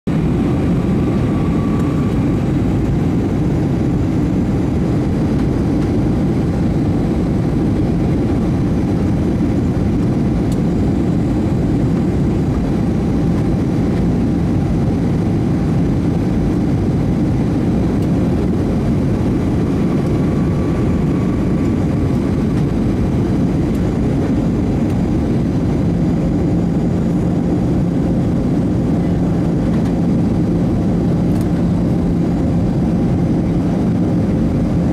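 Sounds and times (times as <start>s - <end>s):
jet engines and airflow rumble: 0.0s - 34.9s.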